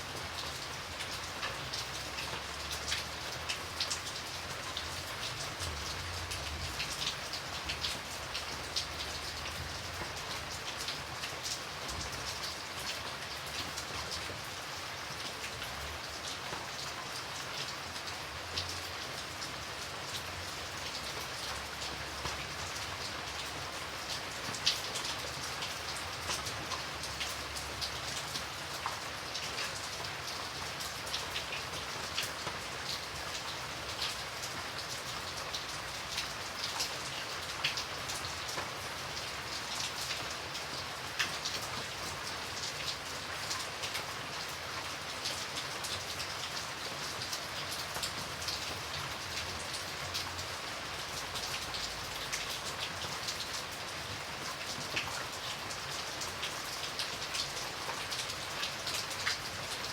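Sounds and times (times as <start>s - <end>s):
raindrops ticking on a surface: 0.0s - 59.9s
steady rain hiss: 0.0s - 59.9s.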